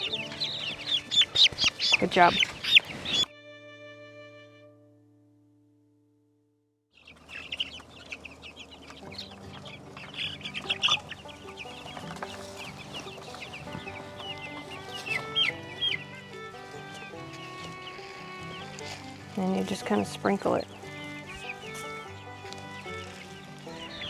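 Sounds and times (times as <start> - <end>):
chicks peeping: 0.0 - 3.3, 7.0 - 24.0
soft background music: 0.0 - 5.3, 7.0 - 24.0.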